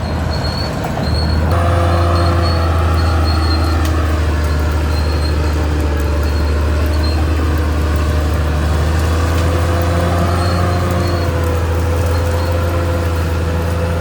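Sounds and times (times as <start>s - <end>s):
bulldozer diesel engine humming: 0.0s - 14.0s
engine whine: 0.0s - 14.0s.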